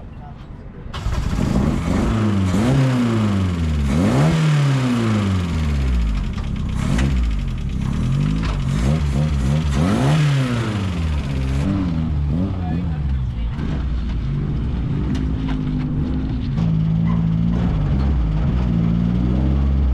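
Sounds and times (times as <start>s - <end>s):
car engine revving: 1.0s - 19.9s.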